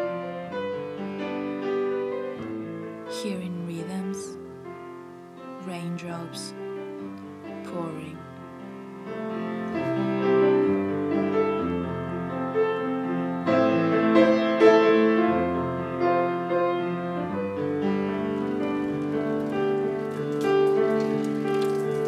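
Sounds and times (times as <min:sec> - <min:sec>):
piano melody over chords: 0:00.0 - 0:22.0.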